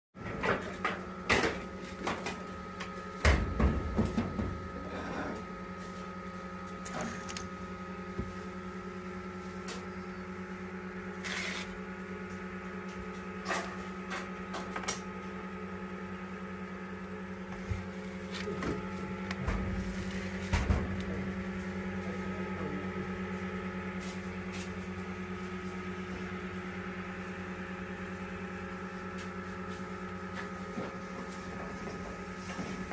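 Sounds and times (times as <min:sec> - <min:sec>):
egg incubator humming: 0:00.2 - 0:32.9.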